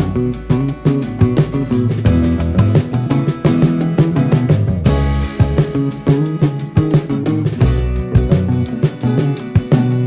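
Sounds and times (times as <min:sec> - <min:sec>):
guitar music over a beat: 0:00.0 - 0:10.0.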